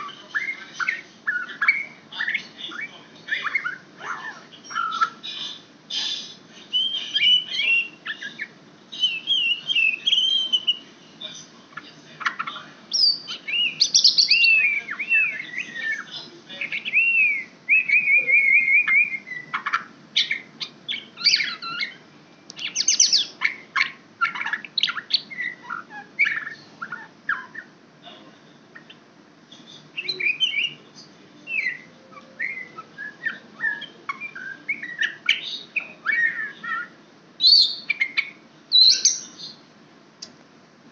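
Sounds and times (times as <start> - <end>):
bird chattering: 0.0 - 10.9, 11.7 - 27.8, 29.8 - 30.8, 31.5 - 39.6
songbird singing: 0.0 - 40.4.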